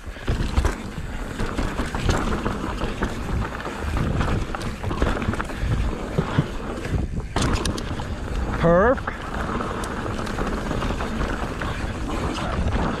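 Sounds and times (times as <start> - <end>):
bike knocks and rattles: 0.0 - 13.0
bike tyres on dirt: 0.0 - 13.0
wind rumble on microphone: 0.0 - 13.0.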